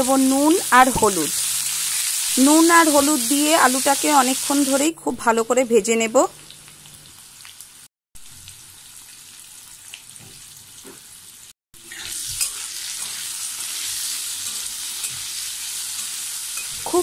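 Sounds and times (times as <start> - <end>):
potatoes sizzling in oil: 0.0 - 4.9, 5.5 - 17.0.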